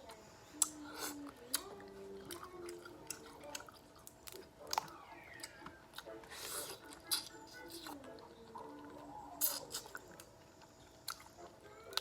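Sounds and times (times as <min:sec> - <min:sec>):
chewing: 0:00.6 - 0:12.0.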